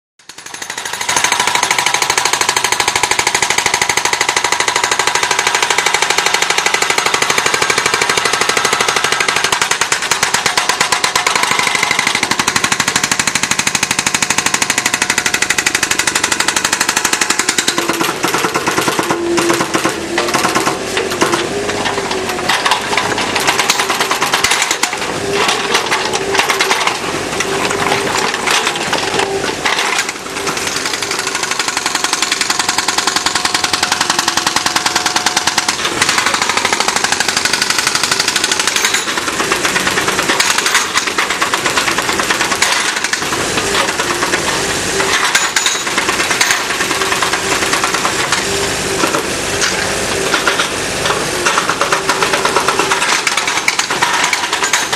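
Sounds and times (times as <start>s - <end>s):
hydraulic breaker pounding concrete: 0.2s - 54.9s.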